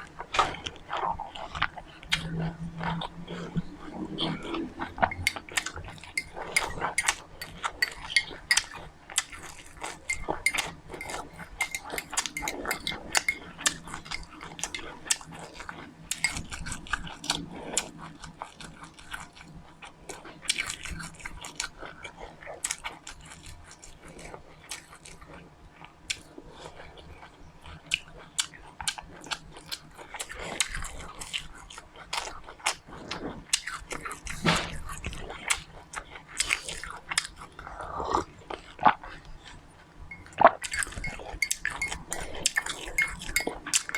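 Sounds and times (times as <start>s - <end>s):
chewing and crunching seeds: 4.1s - 43.9s.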